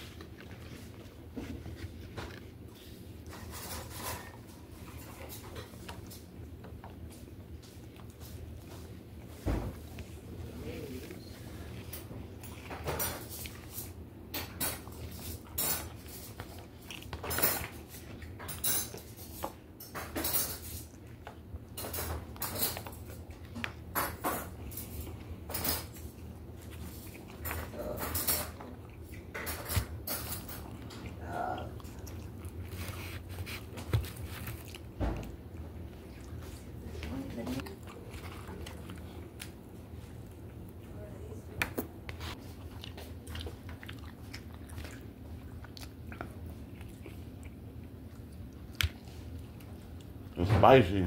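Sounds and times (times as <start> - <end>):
chewing: 0.0 - 19.8, 20.5 - 50.4.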